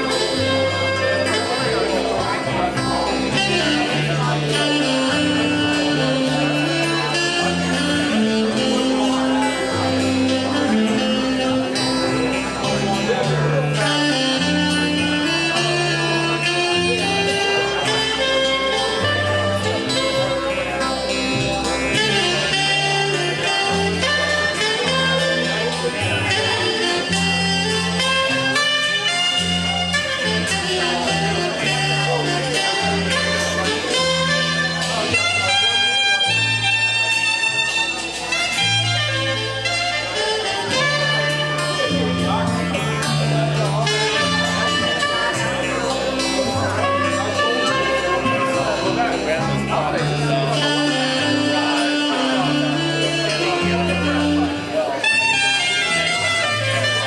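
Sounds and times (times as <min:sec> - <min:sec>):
band playing a song: 0:00.0 - 0:57.0
bass line: 0:00.0 - 0:57.0
saxophone melody: 0:00.0 - 0:57.0.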